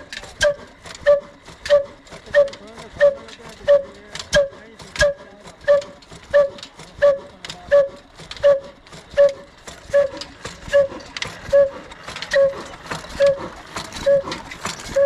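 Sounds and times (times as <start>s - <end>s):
diesel engine running slowly: 0.0s - 15.0s.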